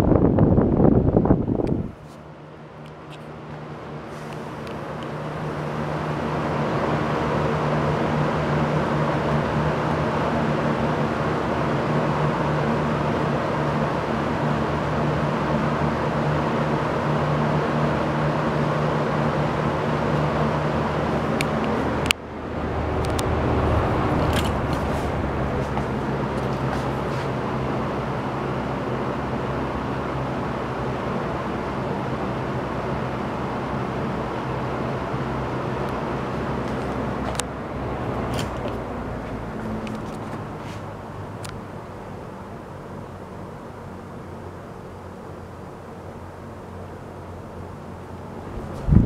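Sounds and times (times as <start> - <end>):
box fan whooshing and humming: 0.0 - 49.0.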